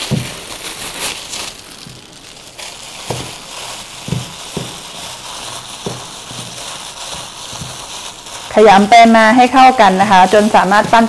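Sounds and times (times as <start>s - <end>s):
hand kneading sticky mix: 0.0s - 11.0s
plastic glove crinkling: 0.0s - 11.0s.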